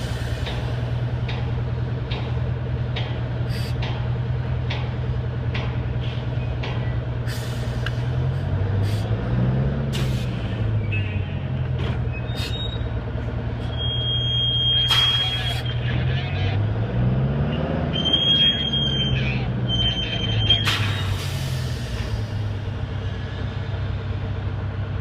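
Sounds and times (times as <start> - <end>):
diesel crane engine revving: 0.0 - 25.0.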